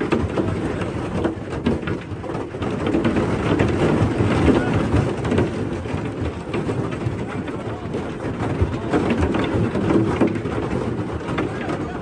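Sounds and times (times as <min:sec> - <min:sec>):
heavy rain beating on train windows: 0:00.0 - 0:12.0.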